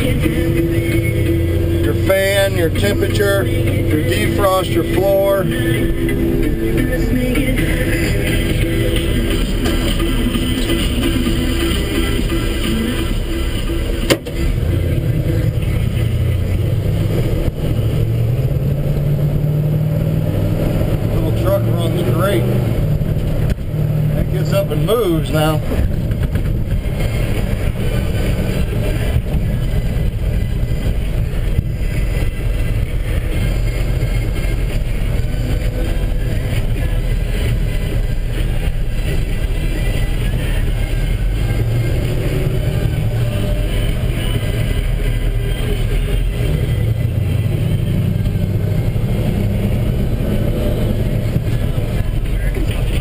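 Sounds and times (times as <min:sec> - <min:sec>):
pickup engine running: 0:00.0 - 0:53.0
road noise: 0:00.0 - 0:53.0.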